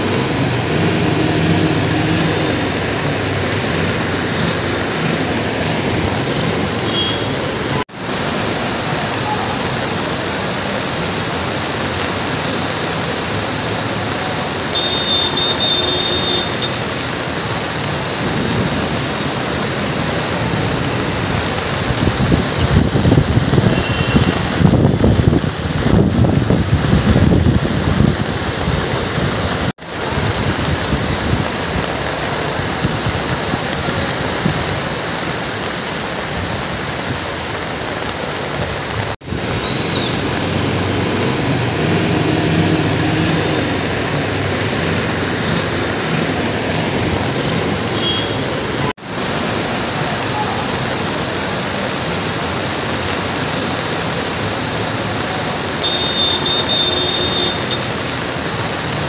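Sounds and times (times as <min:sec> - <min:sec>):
floodwater rushing: 0:00.0 - 0:59.0
heavy rain: 0:00.0 - 0:59.0.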